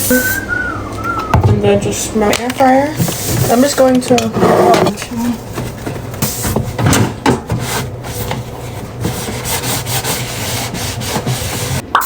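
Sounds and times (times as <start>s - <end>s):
scrubbing air fryer by hand: 1.6s - 11.8s.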